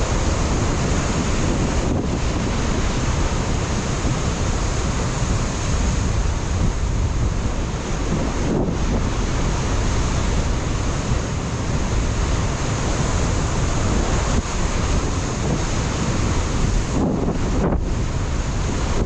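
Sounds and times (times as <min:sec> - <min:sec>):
ocean surf on rocky shore: 0:00.0 - 0:19.0
wind buffeting microphone: 0:00.0 - 0:19.0.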